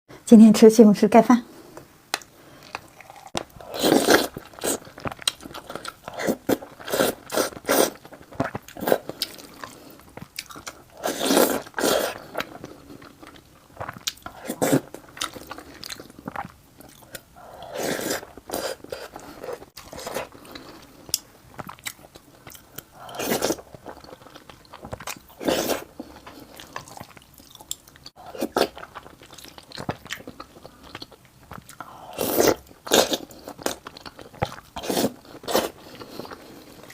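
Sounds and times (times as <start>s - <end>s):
person chewing food: 2.2s - 36.9s.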